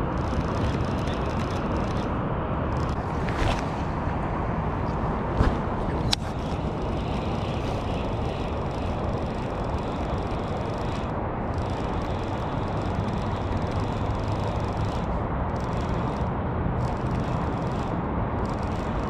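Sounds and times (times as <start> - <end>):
steady low rushing noise: 0.0 - 19.0.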